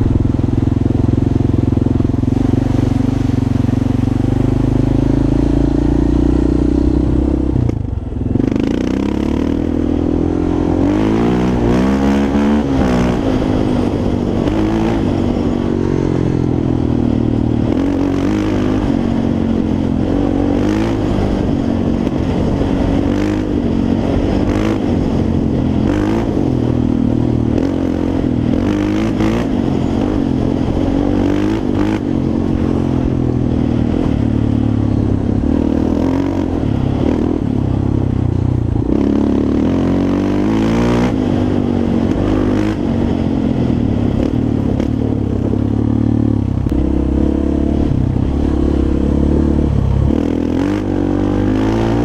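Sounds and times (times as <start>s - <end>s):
quad engine revving: 0.0s - 34.7s, 35.3s - 37.6s, 38.8s - 52.0s.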